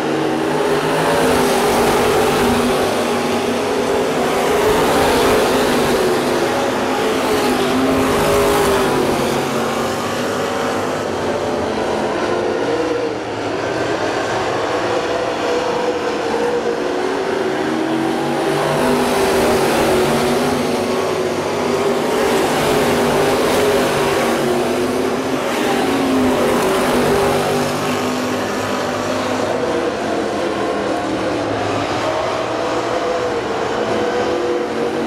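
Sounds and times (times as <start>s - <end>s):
race car engines droning: 0.0s - 35.0s.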